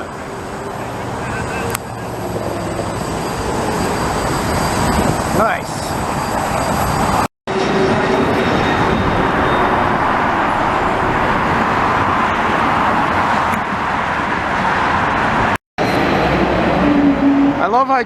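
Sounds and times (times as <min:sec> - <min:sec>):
airliner jet roar overhead: 0:00.0 - 0:18.0
highway traffic noise: 0:00.0 - 0:18.0.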